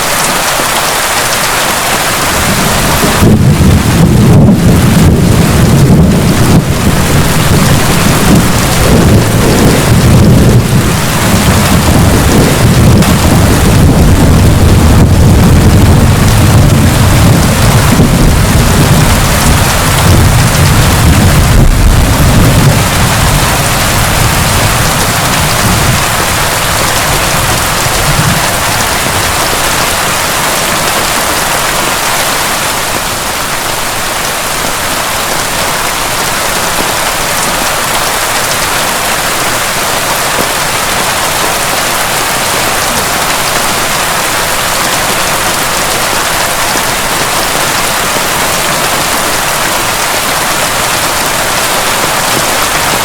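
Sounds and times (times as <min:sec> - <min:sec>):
heavy rain: 0:00.0 - 0:53.0
thunder rumbling: 0:02.1 - 0:47.2.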